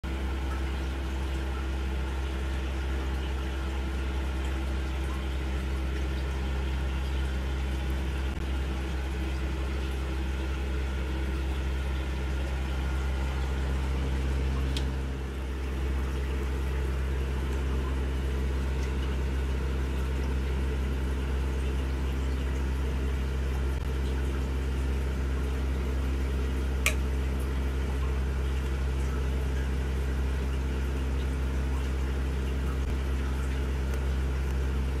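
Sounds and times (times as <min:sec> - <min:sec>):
low electric hum: 0:00.0 - 0:35.0
bubbling trickling water: 0:00.1 - 0:35.0.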